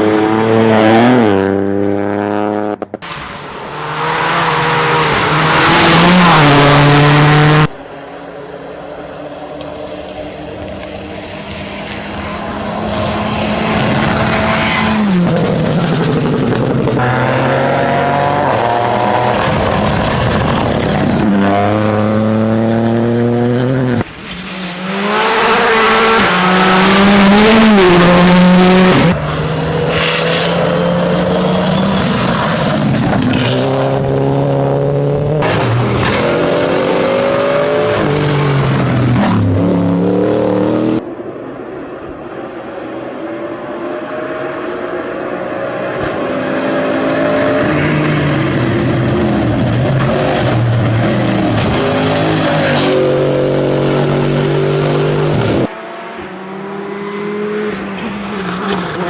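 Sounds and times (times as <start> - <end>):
car passing with rush of noise: 0.0 - 59.0
rally car engines at full throttle: 0.0 - 59.0.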